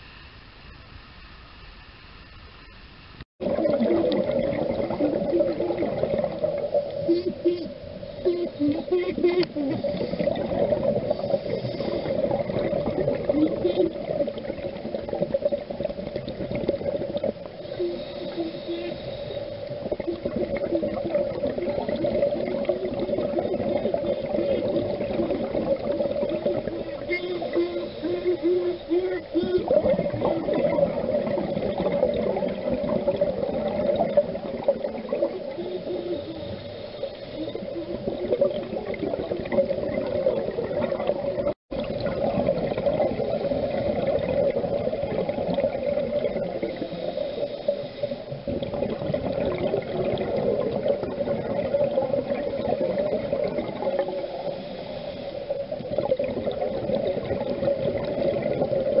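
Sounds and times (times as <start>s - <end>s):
underwater rush of bubbles: 3.4s - 59.0s.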